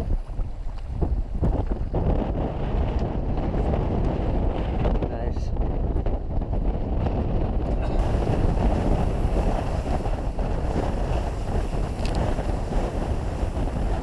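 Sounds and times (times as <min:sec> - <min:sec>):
boat running through rough seas: 0:00.0 - 0:14.0
wind buffeting microphone: 0:00.0 - 0:14.0.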